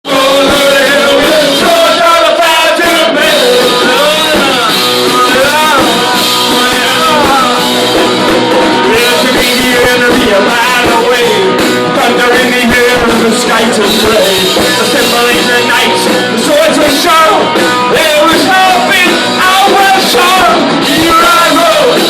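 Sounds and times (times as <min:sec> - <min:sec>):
punk rock music with singing: 0:00.0 - 0:22.0.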